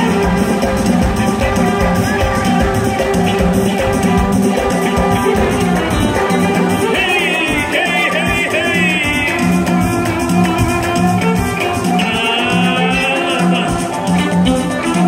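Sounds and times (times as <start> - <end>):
drum kit beat: 0.0 - 15.0
keyboard melody gliding: 0.0 - 15.0
pulsing bass line: 0.0 - 15.0.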